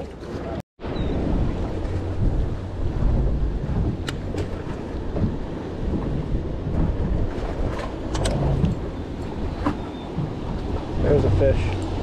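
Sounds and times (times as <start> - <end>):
boat engine rumble: 0.0 - 12.0
wind on microphone: 0.8 - 12.0.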